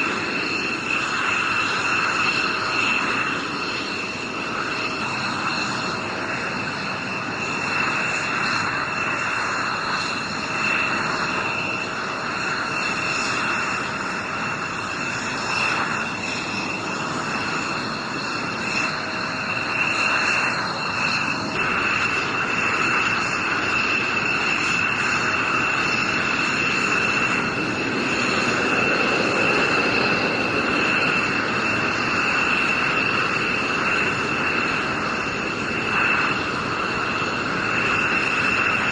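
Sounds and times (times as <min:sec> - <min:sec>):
jet engine drone and whine: 0:00.0 - 0:38.9.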